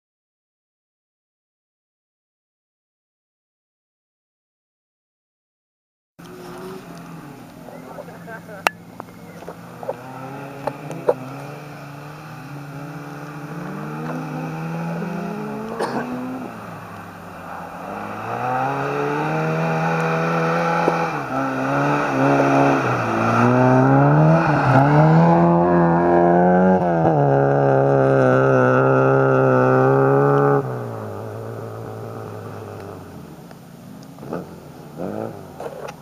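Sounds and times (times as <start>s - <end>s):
rally car engine revving: 6.2s - 36.0s.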